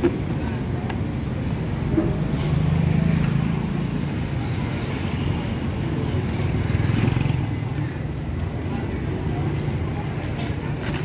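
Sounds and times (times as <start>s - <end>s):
busy outdoor market noise: 0.0s - 11.0s.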